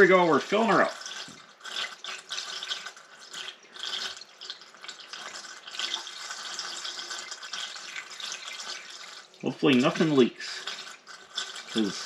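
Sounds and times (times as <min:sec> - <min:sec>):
liquid pouring into funnel: 0:00.0 - 0:12.0.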